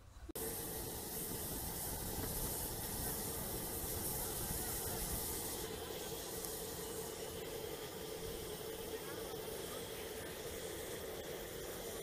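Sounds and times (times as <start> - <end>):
jet engines running: 0.4 - 12.0.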